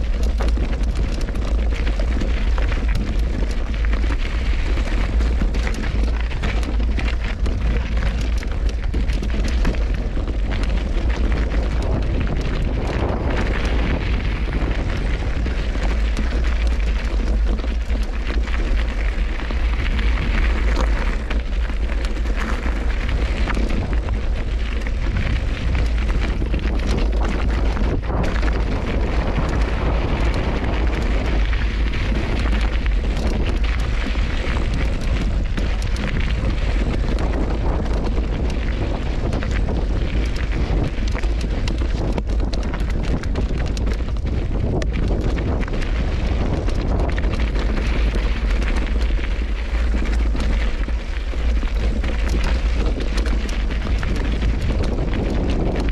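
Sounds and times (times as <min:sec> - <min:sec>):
bike tyres crunching over rocks: 0:00.0 - 0:55.9
wind buffeting microphone: 0:00.0 - 0:55.9.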